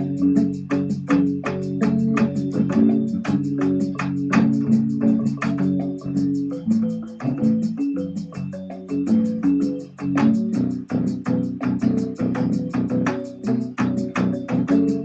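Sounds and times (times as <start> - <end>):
electronic keyboard chords: 0.0 - 15.0
steady ticking beat: 0.0 - 15.0.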